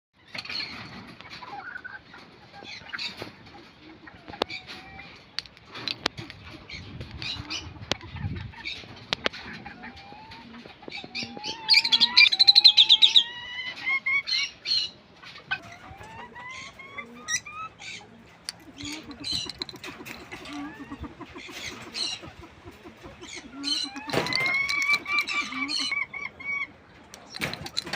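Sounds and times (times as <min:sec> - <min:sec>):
birds chirping: 0:00.2 - 0:27.9.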